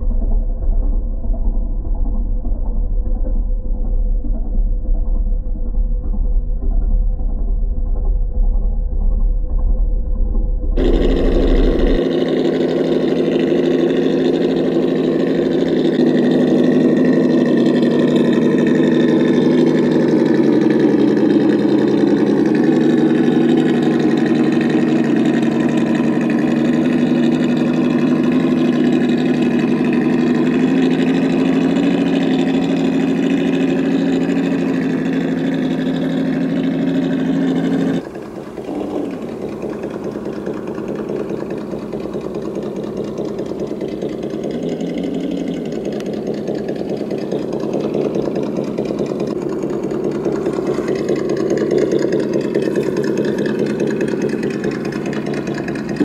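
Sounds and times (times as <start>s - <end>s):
simulated engine rumble from small speaker: 0.0s - 56.0s.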